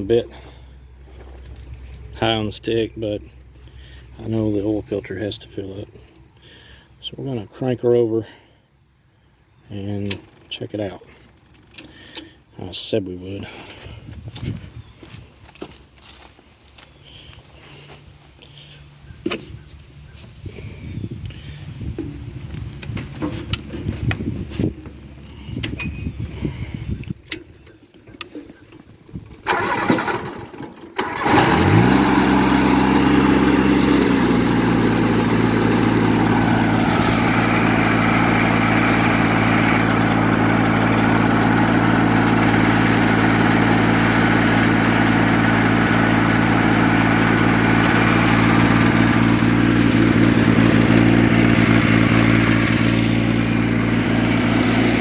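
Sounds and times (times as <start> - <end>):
tractor engine starting and idling: 0.0 - 8.3, 9.7 - 13.9, 20.6 - 55.0.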